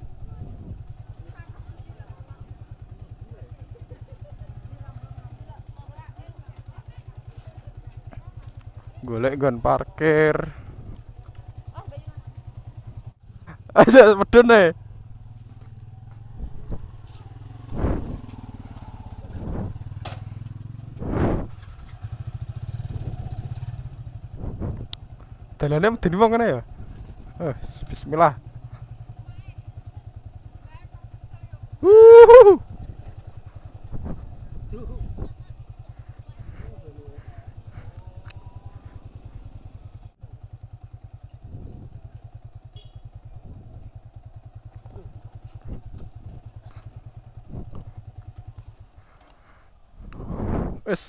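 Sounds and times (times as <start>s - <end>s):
motorcycle engine at low speed: 0.0s - 51.0s.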